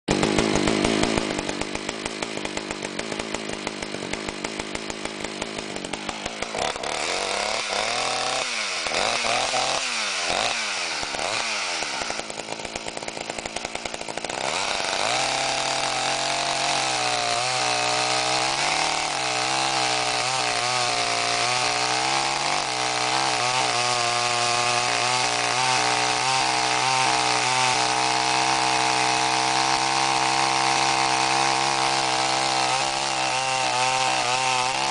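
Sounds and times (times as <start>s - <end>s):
chainsaw cutting through log: 0.1s - 34.9s
chainsaw idling and revving: 0.1s - 34.9s.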